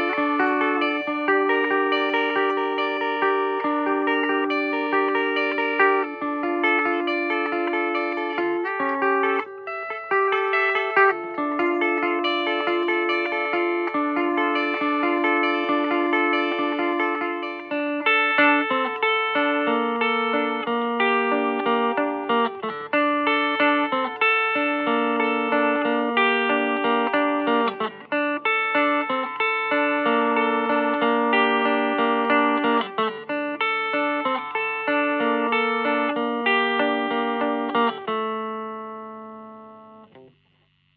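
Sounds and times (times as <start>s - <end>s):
electric guitar picked notes: 0.0s - 40.9s.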